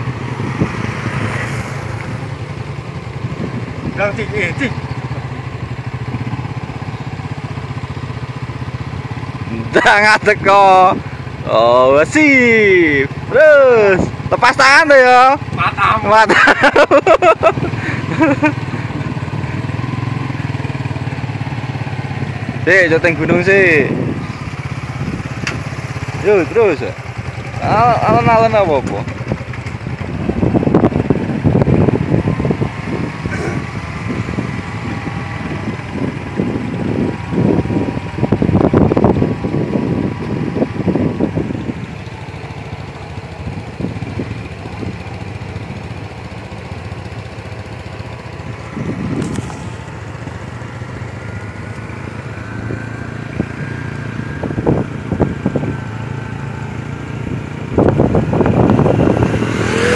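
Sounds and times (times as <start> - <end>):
small motorcycle riding: 0.0 - 59.9.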